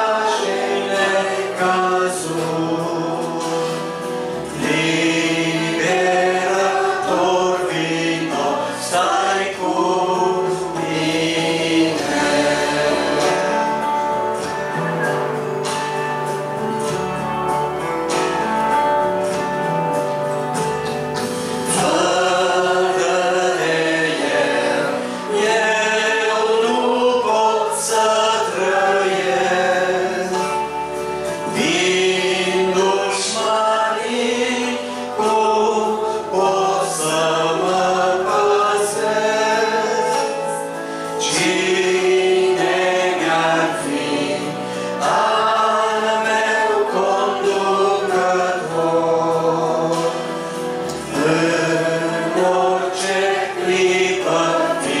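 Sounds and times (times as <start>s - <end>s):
man singing into a microphone: 0.0s - 14.0s, 21.7s - 30.7s, 31.5s - 55.0s
congregation singing a hymn: 0.0s - 55.0s.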